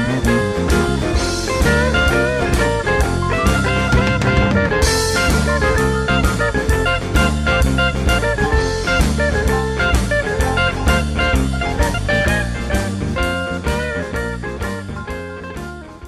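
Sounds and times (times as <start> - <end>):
rock and roll music: 0.0 - 16.0.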